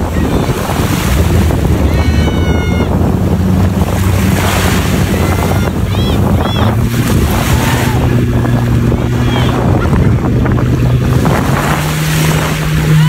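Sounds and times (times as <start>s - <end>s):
jetski engine humming: 0.0s - 13.0s
water sloshing: 0.0s - 13.0s
wind buffeting microphone: 0.0s - 13.0s.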